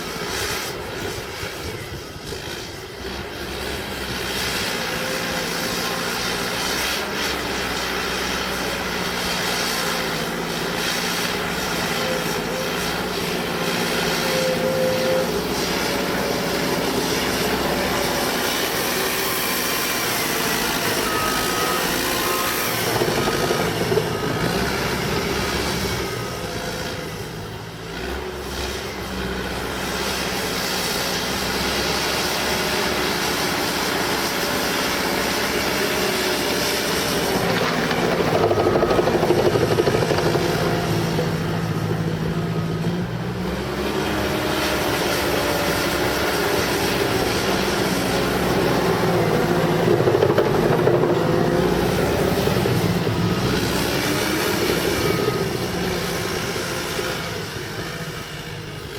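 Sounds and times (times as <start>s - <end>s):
bulldozer diesel engine under load: 0.0s - 58.9s
bulldozer pushing mud: 0.0s - 58.9s.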